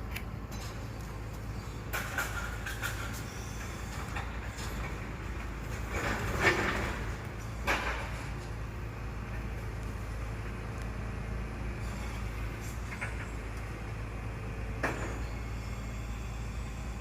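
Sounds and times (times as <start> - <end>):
garbage truck engine rumbling: 0.0 - 17.0.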